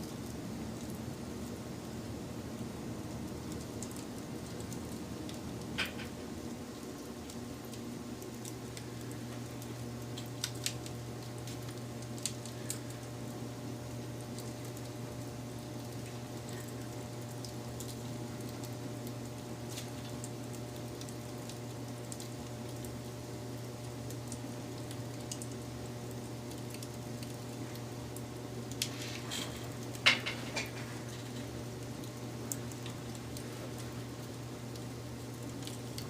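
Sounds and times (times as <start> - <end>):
fire popping and snapping: 0.0 - 36.0
wood fire crackling: 0.0 - 36.0.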